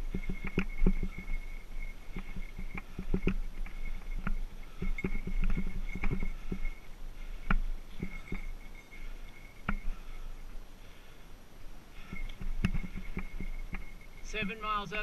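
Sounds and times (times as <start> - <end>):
knocks and rattles from bike: 0.0 - 10.2, 12.0 - 14.2.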